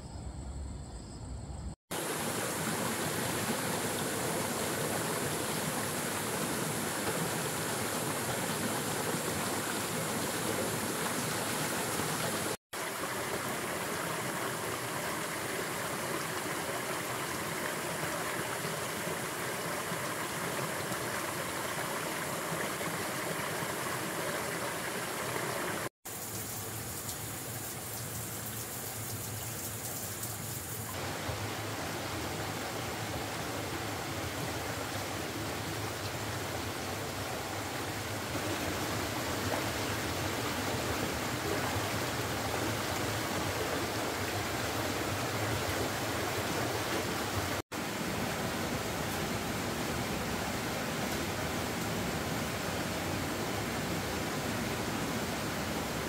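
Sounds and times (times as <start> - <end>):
running water rushing: 1.9 - 56.0.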